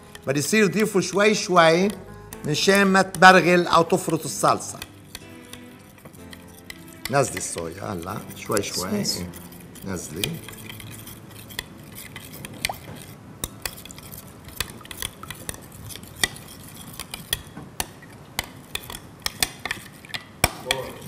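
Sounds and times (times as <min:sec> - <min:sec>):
spoon clinking against mixing bowl: 0:00.1 - 0:21.0.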